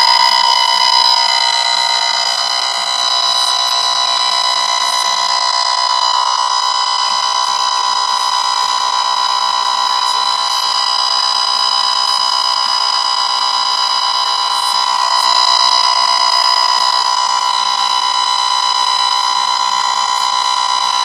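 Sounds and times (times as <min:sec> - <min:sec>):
radar detector alert tone: 0:00.0 - 0:21.0.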